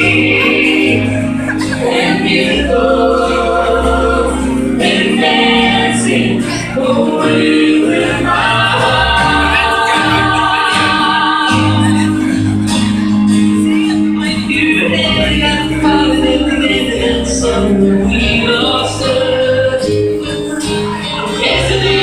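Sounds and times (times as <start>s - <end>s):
choral singing: 0.0s - 22.0s
steady bass line: 0.0s - 22.0s.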